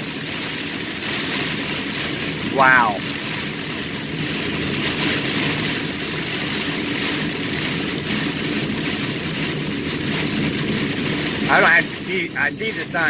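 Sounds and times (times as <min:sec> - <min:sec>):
heavy rain on car roof: 0:00.0 - 0:13.0
road noise: 0:00.0 - 0:13.0.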